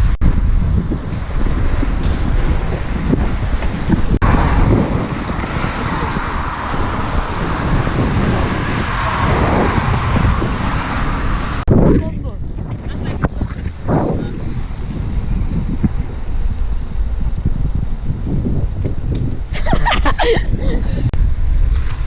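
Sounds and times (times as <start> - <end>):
road and tyre noise: 0.0 - 22.0
wind buffeting microphone: 0.0 - 22.0.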